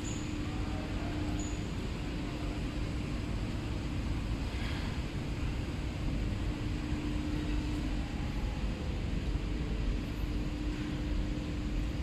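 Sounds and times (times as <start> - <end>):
factory machinery rumble: 0.0 - 12.0.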